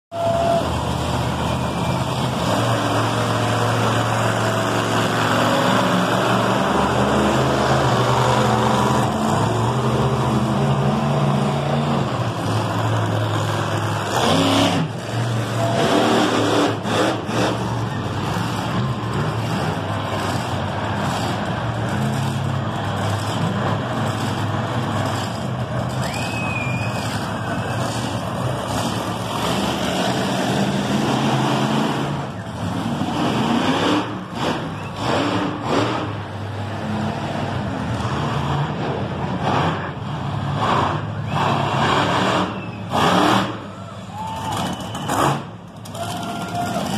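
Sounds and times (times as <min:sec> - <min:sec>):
truck engine running loudly: 0:00.1 - 0:46.9.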